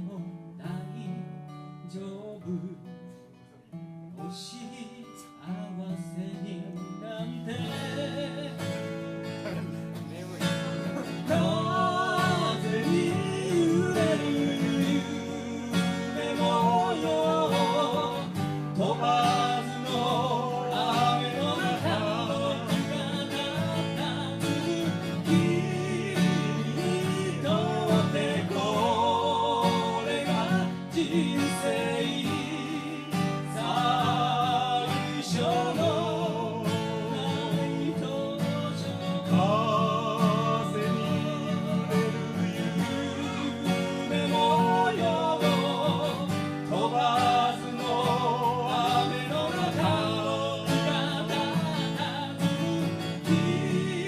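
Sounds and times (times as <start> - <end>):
acoustic guitar: 0.0 - 54.0.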